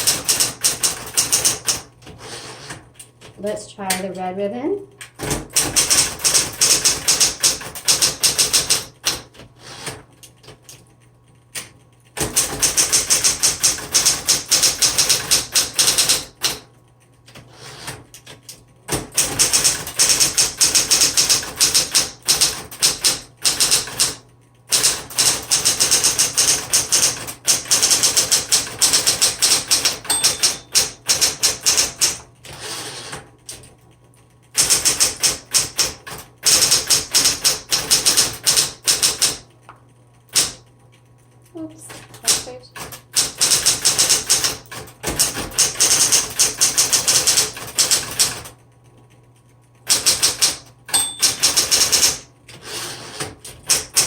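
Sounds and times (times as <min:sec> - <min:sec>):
typewriter keystroke clacks: 0:00.0 - 0:04.0, 0:05.0 - 0:41.3, 0:41.9 - 0:54.0.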